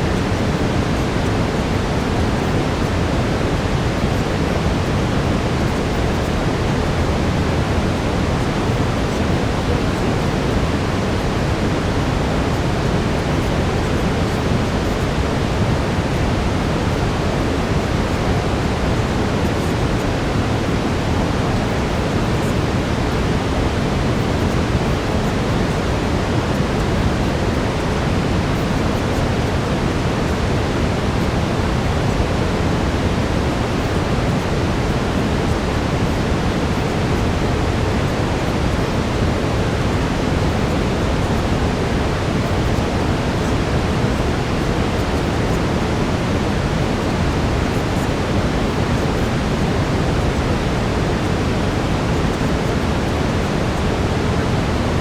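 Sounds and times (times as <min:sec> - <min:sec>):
brown noise: 0:00.0 - 0:55.0
faint steady tone: 0:00.0 - 0:55.0.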